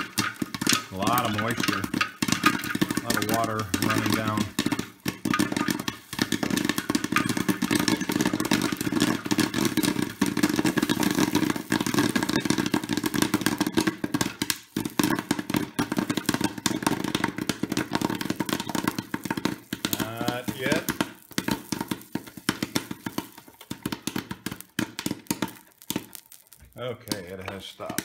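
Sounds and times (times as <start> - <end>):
popcorn popping: 0.0 - 28.0.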